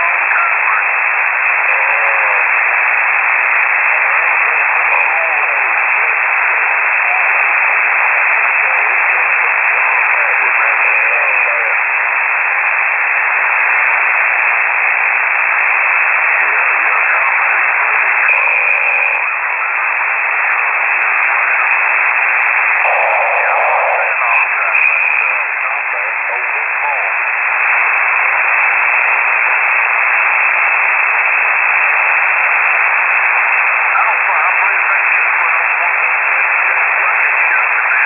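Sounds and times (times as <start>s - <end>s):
faint voices under static: 0.0s - 38.0s
radio static hiss: 0.0s - 38.0s.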